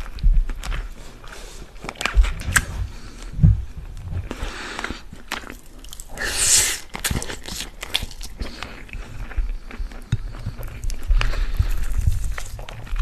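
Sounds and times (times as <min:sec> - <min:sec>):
chewing rice: 0:00.0 - 0:03.3, 0:03.9 - 0:13.0.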